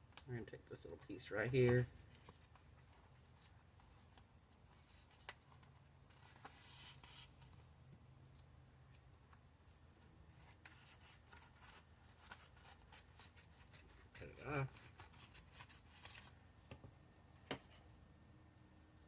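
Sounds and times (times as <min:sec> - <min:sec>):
light rustling of paper: 0:00.7 - 0:18.0.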